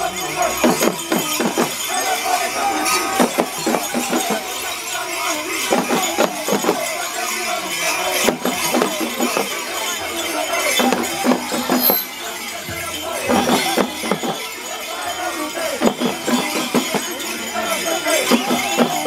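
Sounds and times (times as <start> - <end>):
costume bells jingling: 0.0 - 19.0.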